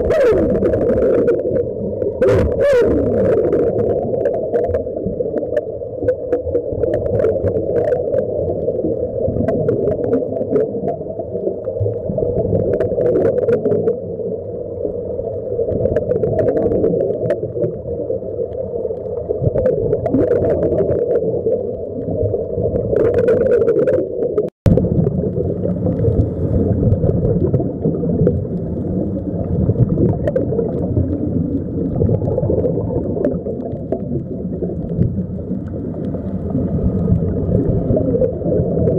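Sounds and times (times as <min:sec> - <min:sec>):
air bubbling underwater: 0:00.0 - 0:38.9
muffled underwater rumble: 0:00.0 - 0:38.9.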